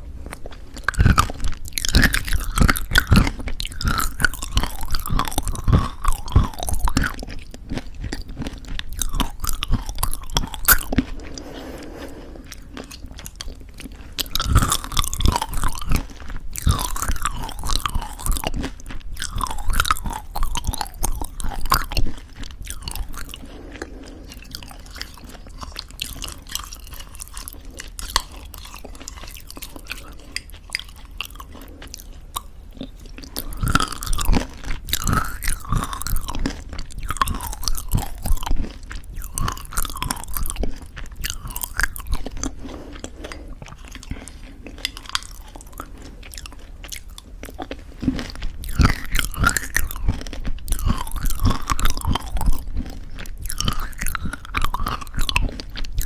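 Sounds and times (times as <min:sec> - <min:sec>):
crunching and chewing granola: 0:00.0 - 0:56.0.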